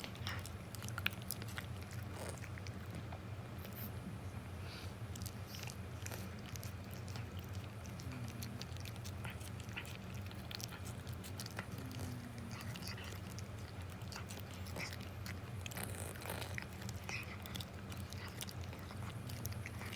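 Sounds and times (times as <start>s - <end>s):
cat chewing and licking: 0.0s - 19.9s
steady low hum: 0.0s - 19.9s.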